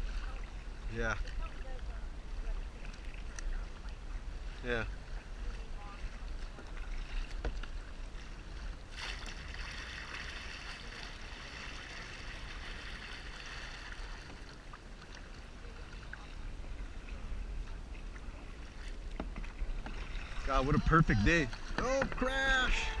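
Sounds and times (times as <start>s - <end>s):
water splashing around kayak hull: 0.0s - 23.0s.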